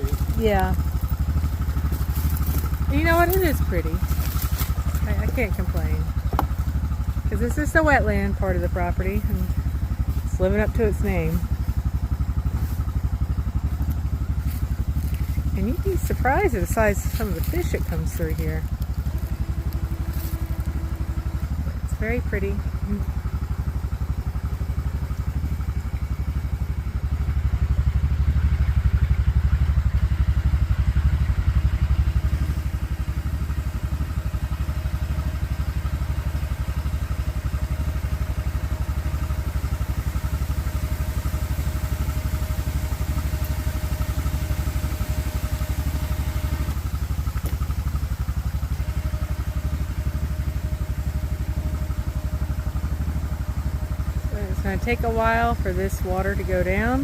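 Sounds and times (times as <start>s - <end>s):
small engine idling: 0.0s - 57.0s.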